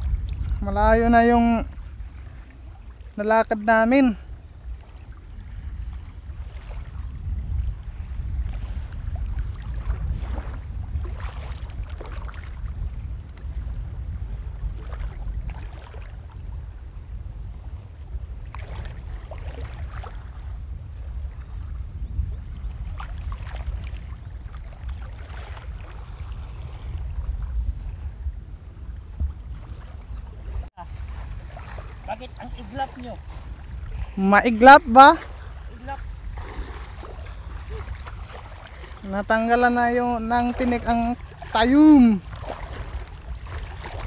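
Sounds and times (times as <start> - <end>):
water sloshing around wading legs: 0.0 - 13.6, 14.5 - 16.5, 18.4 - 20.6, 22.5 - 27.5, 29.2 - 44.0
wind buffeting microphone: 0.0 - 44.0.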